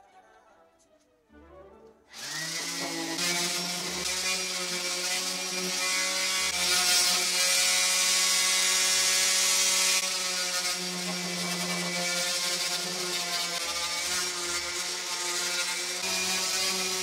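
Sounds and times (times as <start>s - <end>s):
orbital sander running: 2.2s - 17.0s.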